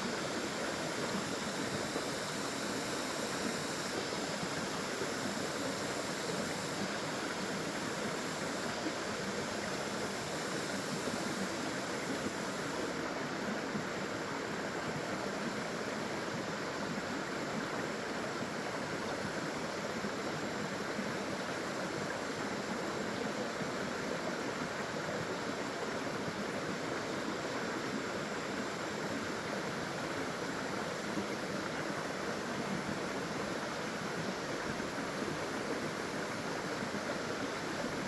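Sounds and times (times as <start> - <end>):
water flowing over waterfall: 0.0 - 38.0.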